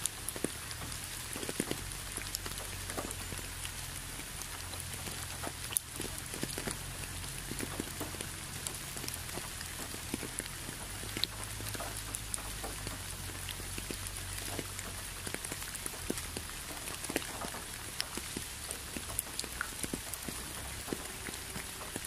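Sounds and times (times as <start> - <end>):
low steady rumble: 0.0 - 22.0
raindrops ticking: 0.0 - 22.0
steady rain hiss: 0.0 - 22.0.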